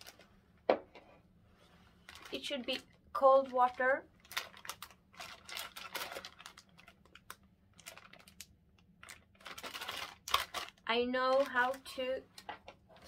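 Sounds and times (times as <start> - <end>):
plastic packet crinkling: 0.0 - 0.3, 2.0 - 13.0.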